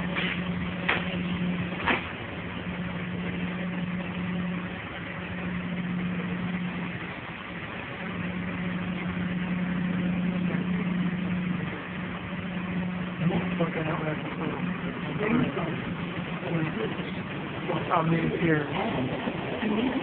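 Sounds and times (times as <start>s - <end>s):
subway car interior hum: 0.0s - 20.0s.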